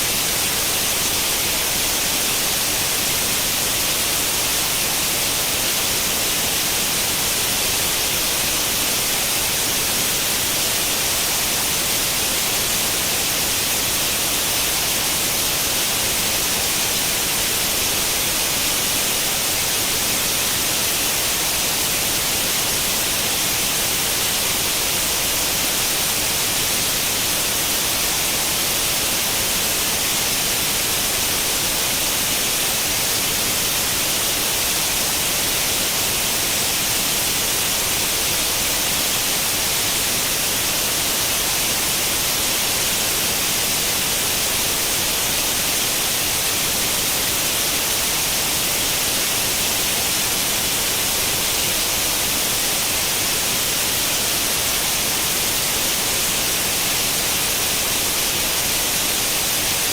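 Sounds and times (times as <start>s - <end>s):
white noise static hiss: 0.0s - 59.9s.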